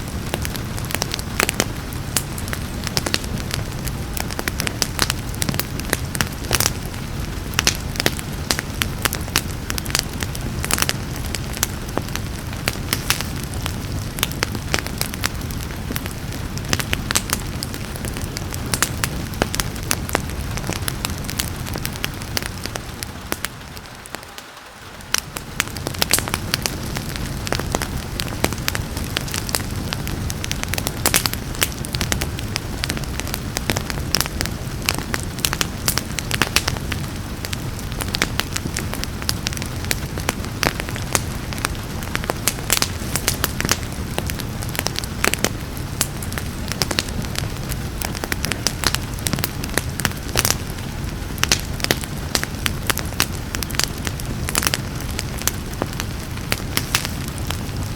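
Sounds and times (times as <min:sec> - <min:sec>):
rain hissing: 0:00.0 - 0:57.9
wood fire crackling and popping: 0:00.0 - 0:57.9.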